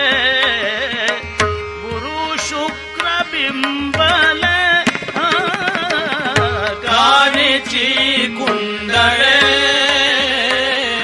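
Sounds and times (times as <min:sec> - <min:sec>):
tabla strokes: 0:00.0 - 0:11.0.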